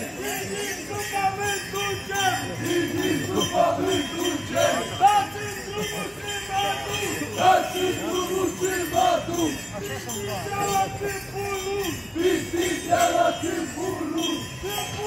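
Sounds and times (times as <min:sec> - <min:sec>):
bells jingling in dance rhythm: 0:00.0 - 0:15.0
crowd noise: 0:00.0 - 0:15.0.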